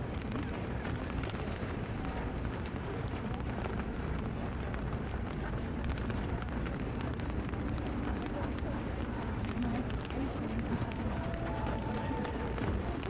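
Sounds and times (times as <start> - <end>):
heavy low rumble: 0.0 - 13.0
rain falling on wet pavement: 0.0 - 13.0.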